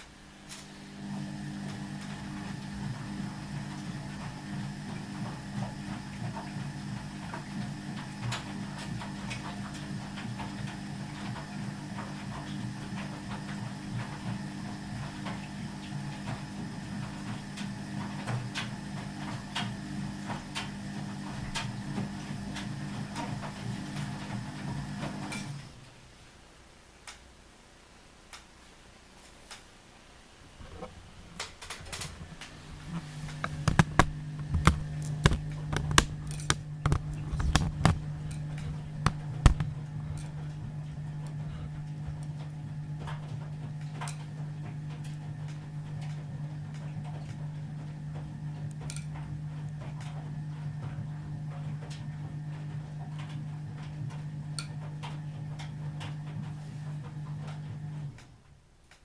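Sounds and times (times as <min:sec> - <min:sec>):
drain pump humming: 0:00.0 - 0:26.0, 0:30.6 - 0:58.6.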